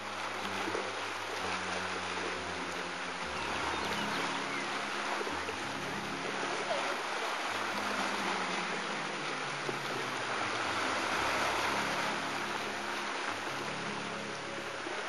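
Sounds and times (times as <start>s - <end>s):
geothermal pool churning hiss: 0.0s - 15.0s.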